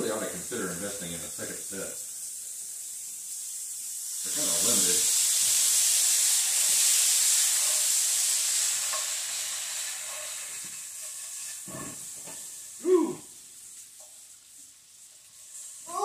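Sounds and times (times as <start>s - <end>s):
beans sizzling in oil: 0.0s - 16.0s.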